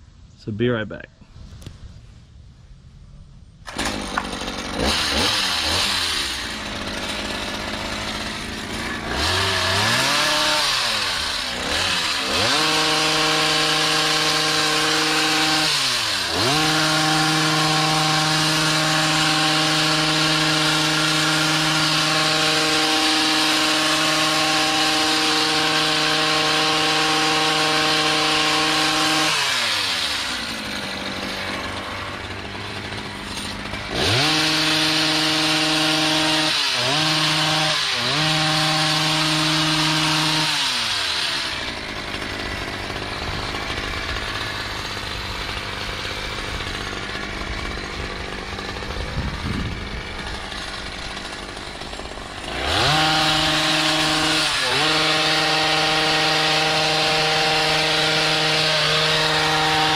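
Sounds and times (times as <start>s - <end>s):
hedge trimmer engine running: 3.6s - 59.9s.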